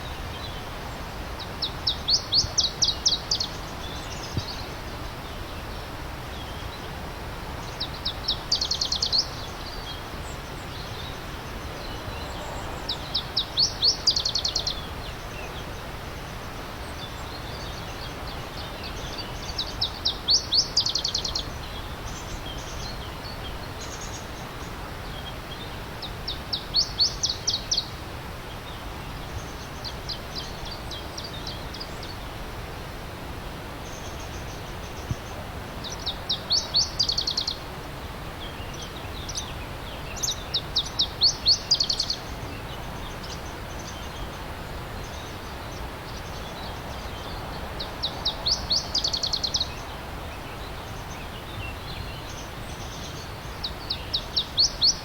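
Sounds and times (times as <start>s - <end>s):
faint bird song: 0.0s - 55.0s
songbird singing: 0.0s - 55.0s
stream water rushing: 0.0s - 55.0s.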